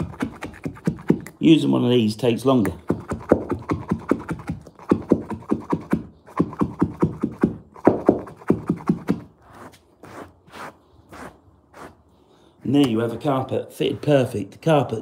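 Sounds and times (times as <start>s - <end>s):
carpet tool tapping and scraping: 0.0s - 1.4s, 2.6s - 12.0s, 12.6s - 14.3s.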